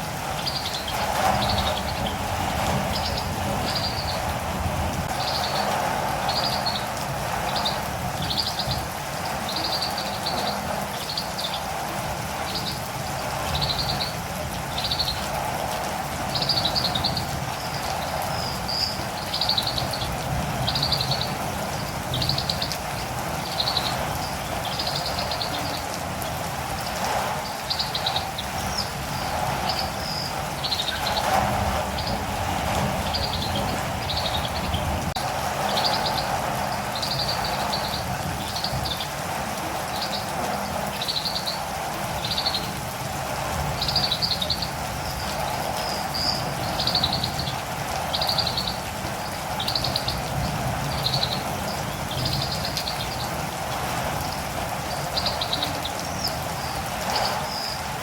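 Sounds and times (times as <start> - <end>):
rain hiss: 0.0 - 58.0.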